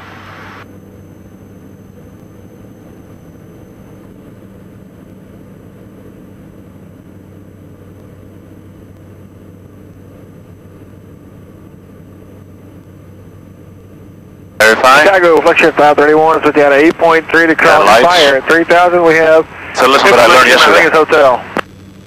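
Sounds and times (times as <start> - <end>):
aircraft engine drone in cockpit: 0.0 - 22.0.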